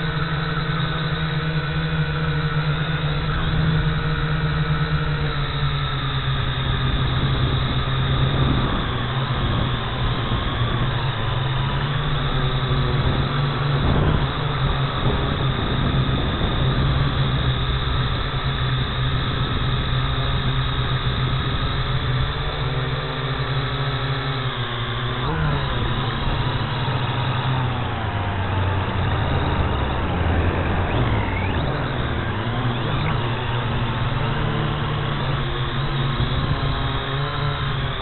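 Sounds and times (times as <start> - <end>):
drone motors humming: 0.0 - 38.0.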